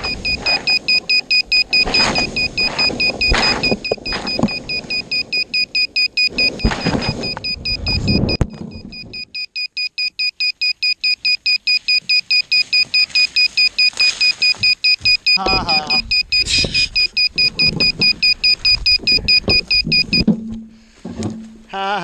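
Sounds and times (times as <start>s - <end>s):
rustling and scraping in branches: 0.0s - 9.2s, 11.6s - 15.4s, 16.0s - 21.7s
high electronic beeping: 0.0s - 20.3s.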